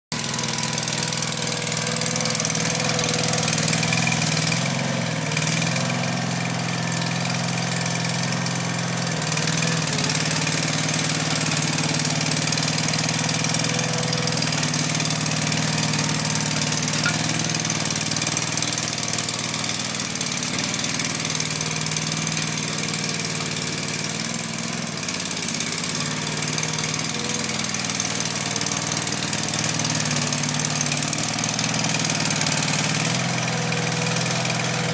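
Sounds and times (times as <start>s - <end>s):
loader engine running under load: 0.1s - 34.9s
power rake scraping soil: 0.1s - 34.9s.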